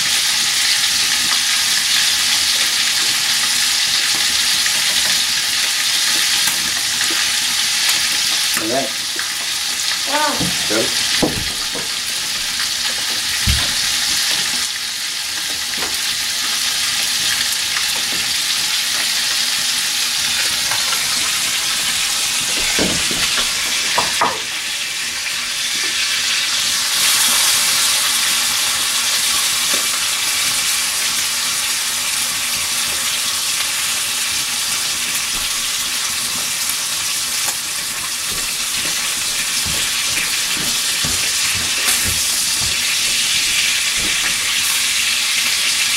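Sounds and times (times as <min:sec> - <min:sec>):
meat sizzling in a pan: 0:00.0 - 0:45.9.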